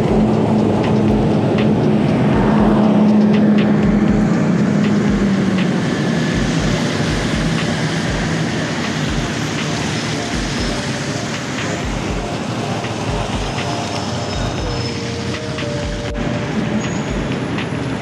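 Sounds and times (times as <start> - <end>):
vehicle engine hum: 0.0 - 18.0
tyres hissing on wet road: 2.9 - 18.0.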